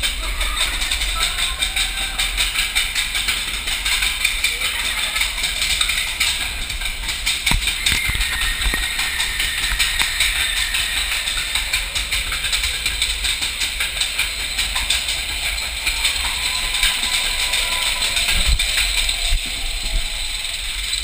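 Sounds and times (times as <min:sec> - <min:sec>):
roller coaster rattling on track: 0:00.0 - 0:21.0.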